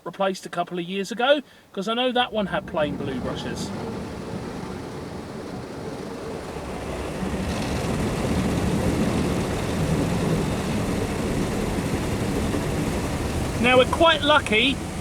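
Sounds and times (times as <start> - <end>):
car wash brushes scrubbing: 2.2 - 15.0.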